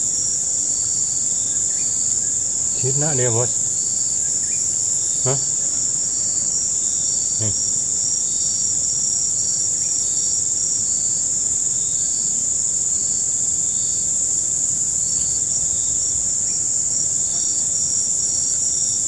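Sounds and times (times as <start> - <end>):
insect chirps: 0.0 - 19.0
insects buzzing: 0.0 - 19.0.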